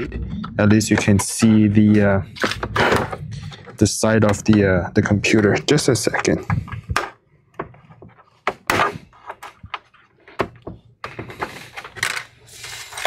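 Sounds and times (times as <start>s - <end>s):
plastic scraping: 0.0s - 13.0s.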